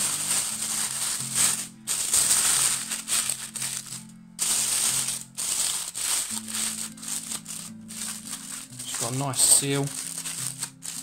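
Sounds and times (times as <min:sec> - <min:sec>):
aluminium foil crinkling: 0:00.0 - 0:11.0
slow low background music: 0:00.0 - 0:11.0.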